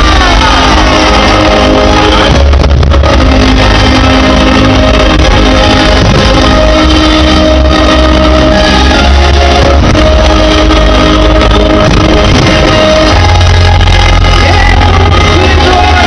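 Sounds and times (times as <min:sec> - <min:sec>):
loud music with heavy bass: 0:00.0 - 0:16.0.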